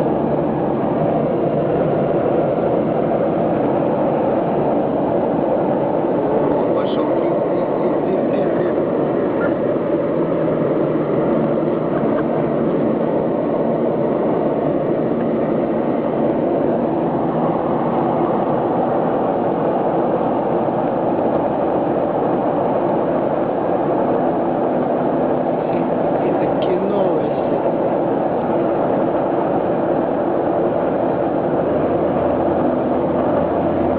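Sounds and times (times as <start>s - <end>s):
aircraft cabin engine noise: 0.0s - 33.9s.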